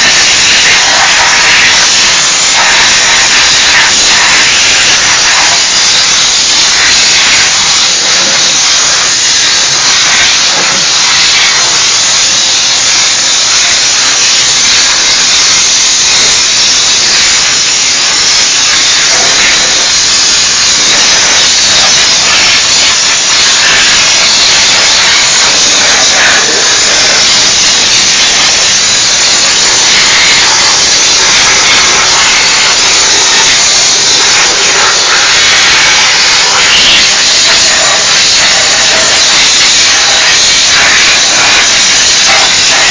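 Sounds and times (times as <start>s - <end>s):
steam cleaner hissing: 0.0s - 42.9s.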